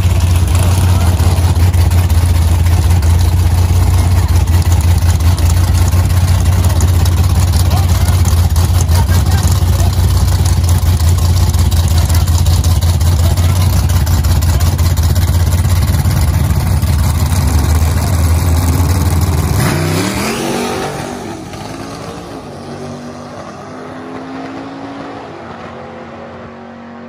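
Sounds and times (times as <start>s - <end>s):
cars accelerating away: 0.0s - 27.0s
drag racing engines rumbling: 0.0s - 27.0s.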